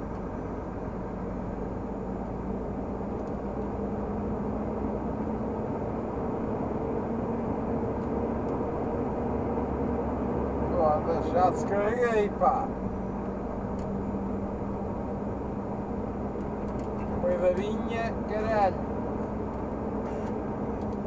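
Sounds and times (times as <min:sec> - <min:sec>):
truck diesel engine driving: 0:00.0 - 0:21.0.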